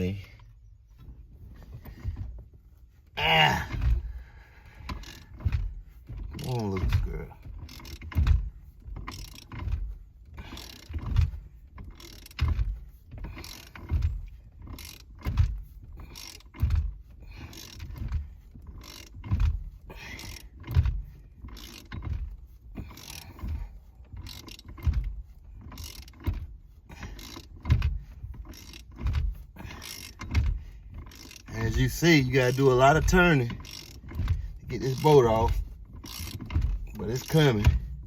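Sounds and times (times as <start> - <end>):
ratchet wrench turning bolt: 4.8 - 38.0.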